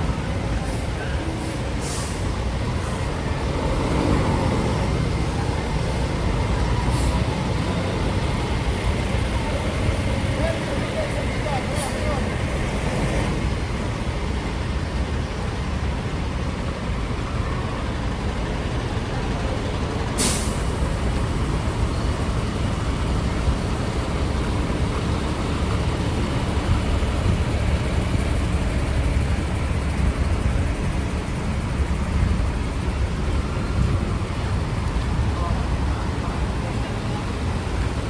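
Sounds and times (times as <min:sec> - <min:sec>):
traffic engines rumbling: 0:00.0 - 0:38.0.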